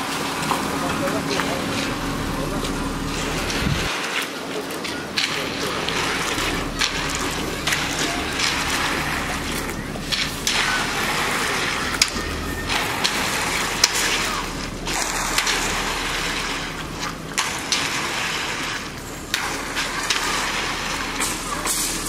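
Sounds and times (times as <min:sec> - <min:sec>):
low steady hum: 0:00.0 - 0:22.0
rakes scraping wet concrete: 0:00.0 - 0:22.0
wet sloshing: 0:00.0 - 0:22.0.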